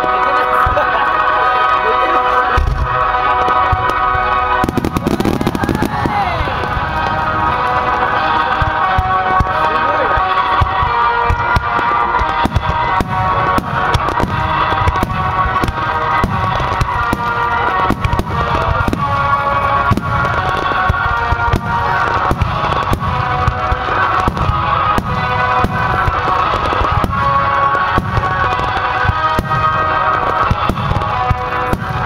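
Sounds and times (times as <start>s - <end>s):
fireworks bangs: 0.0s - 32.0s
music playing: 0.0s - 32.0s.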